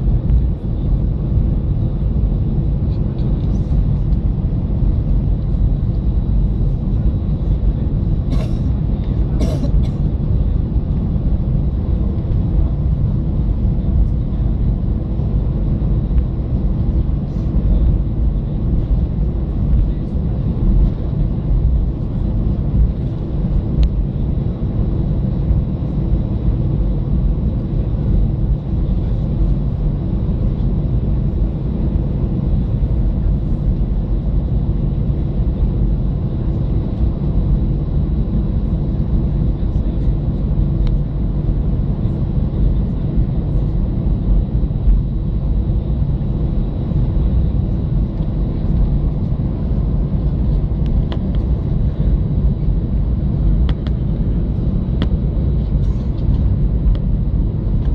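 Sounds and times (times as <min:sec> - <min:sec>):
aircraft cabin rumble: 0:00.0 - 0:57.9.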